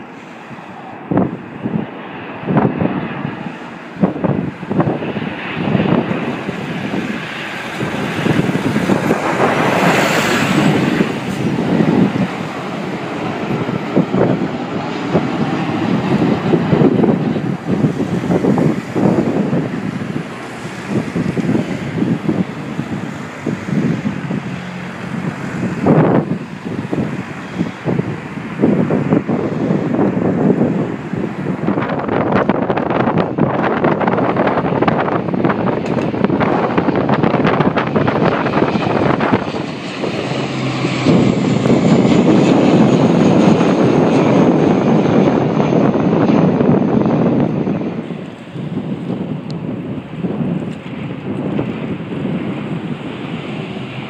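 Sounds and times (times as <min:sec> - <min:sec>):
high turbine whine: 0:00.0 - 0:54.0
propeller plane drone overhead: 0:00.0 - 0:54.0
wind buffeting microphone: 0:00.0 - 0:54.0.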